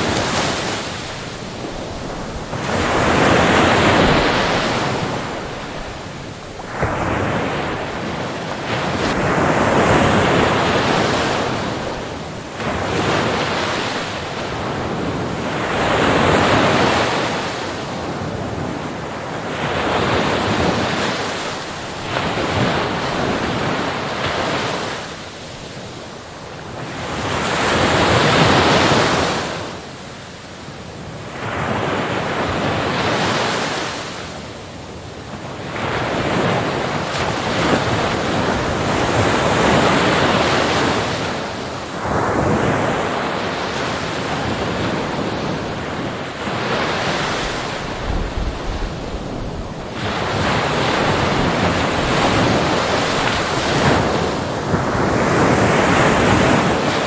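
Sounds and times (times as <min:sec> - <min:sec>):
ocean waves breaking: 0:00.0 - 0:30.1, 0:31.0 - 0:57.0.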